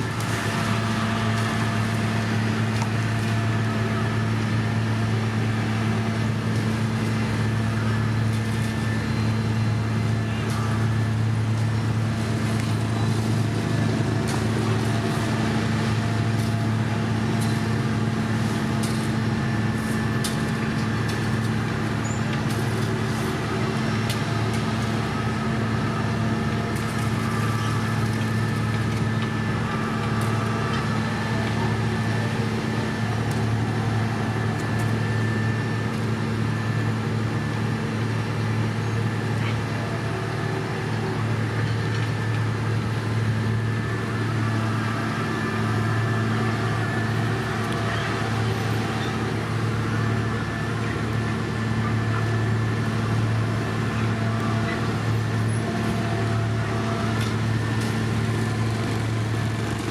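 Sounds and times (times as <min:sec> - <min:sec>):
heavy machine engine drone: 0:00.0 - 0:59.9.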